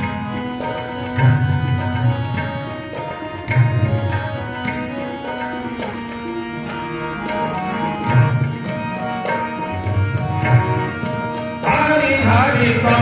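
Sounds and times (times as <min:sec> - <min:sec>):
harmonium chords: 0:00.0 - 0:13.0
tabla playing a rhythm: 0:00.0 - 0:13.0.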